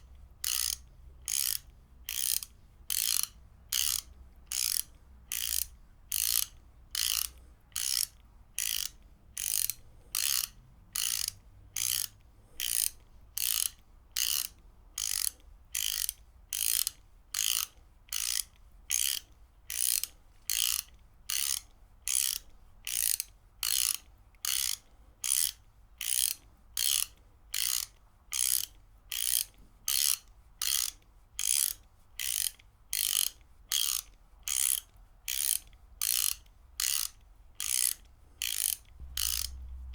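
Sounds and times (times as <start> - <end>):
ratchet wrench clicking: 0.4 - 39.9.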